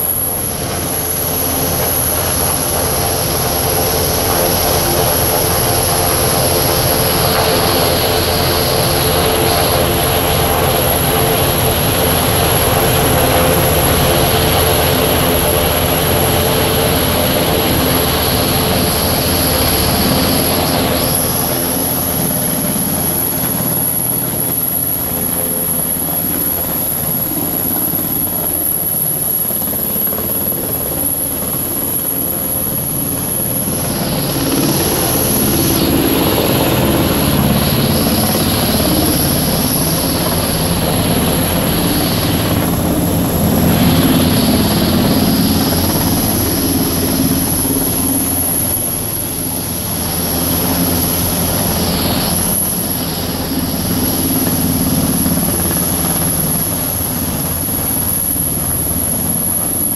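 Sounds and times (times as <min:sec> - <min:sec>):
helicopter hovering: 0:00.0 - 0:59.9
high turbine whine: 0:00.0 - 0:59.9.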